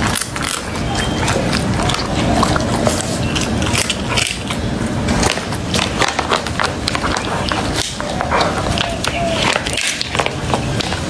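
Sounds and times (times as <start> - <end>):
dog crunching food: 0.0 - 11.0.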